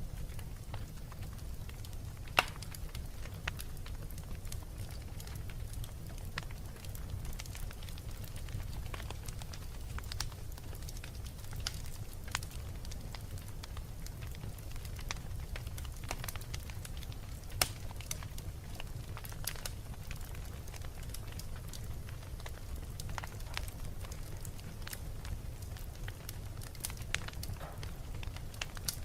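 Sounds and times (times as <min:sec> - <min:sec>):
fire low rumble: 0:00.0 - 0:29.0
wood fire crackling and popping: 0:00.0 - 0:29.0.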